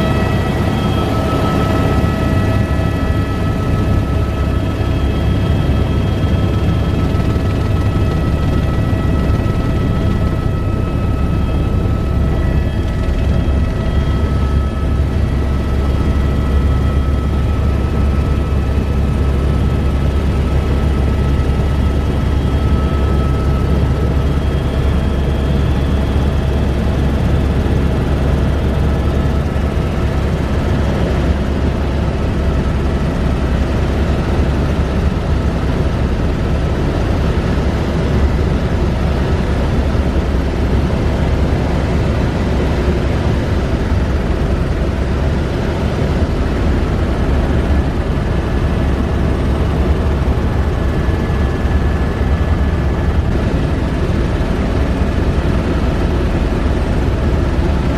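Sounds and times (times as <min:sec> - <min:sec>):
helicopter rotor drone: 0:00.0 - 0:57.9.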